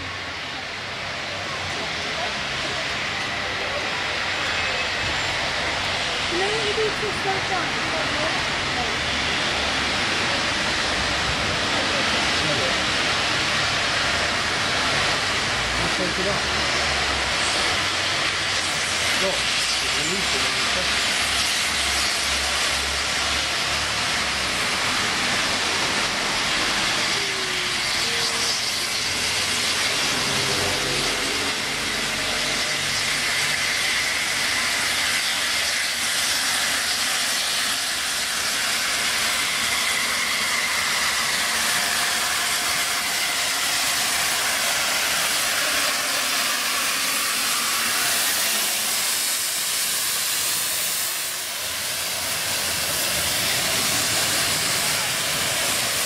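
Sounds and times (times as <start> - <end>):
steam locomotive hiss: 0.0 - 56.0.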